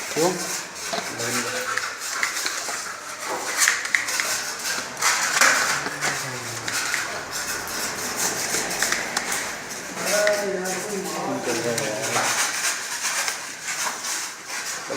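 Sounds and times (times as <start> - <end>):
tools scraping a surface: 0.0 - 14.9.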